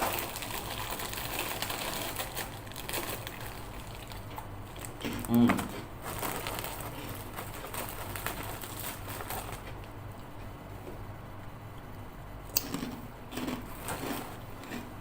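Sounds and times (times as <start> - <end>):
crackling being chewed: 0.0 - 10.5, 12.5 - 15.0.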